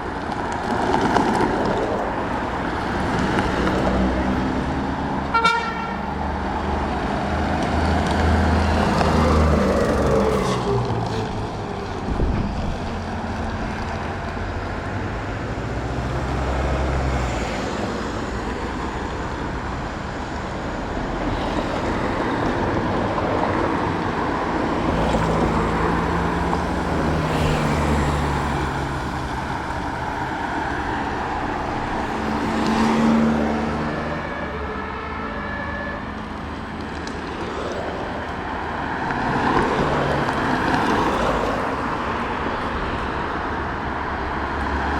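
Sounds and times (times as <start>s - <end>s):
trucks passing: 0.0s - 44.9s
vehicles driving past: 0.0s - 44.9s.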